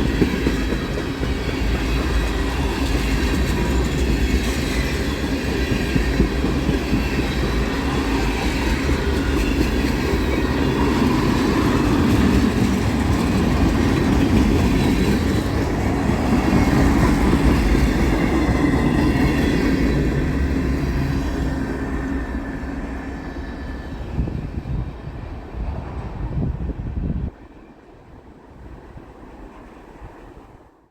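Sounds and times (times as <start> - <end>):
train wheel squeal: 0.0 - 30.5.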